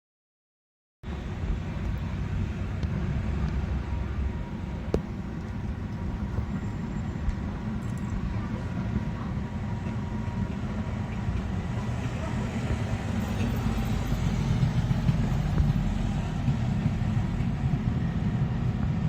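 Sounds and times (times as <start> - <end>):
freight train passing: 1.0 - 19.0.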